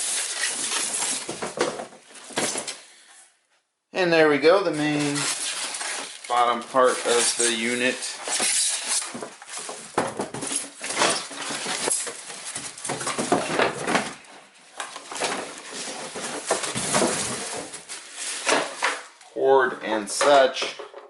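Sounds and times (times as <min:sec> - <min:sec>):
packaging rustling and scraping: 0:00.0 - 0:02.8, 0:04.7 - 0:19.1.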